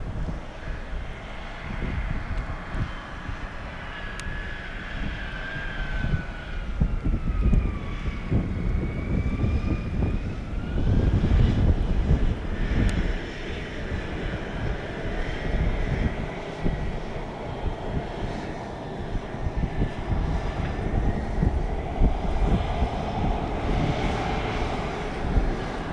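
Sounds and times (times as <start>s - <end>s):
jet engine whine: 0.0s - 25.9s
jet engines rumbling: 0.0s - 25.9s.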